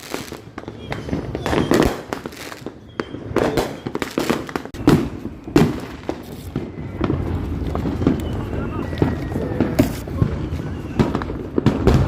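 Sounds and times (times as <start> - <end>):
fireworks banging: 0.0 - 12.0
fireworks crackling: 0.0 - 12.0.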